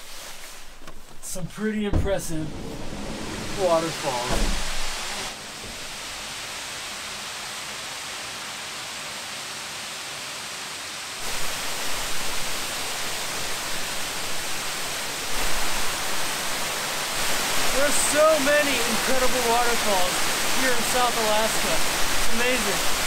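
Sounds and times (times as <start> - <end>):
waterfall rushing: 1.9 - 23.0.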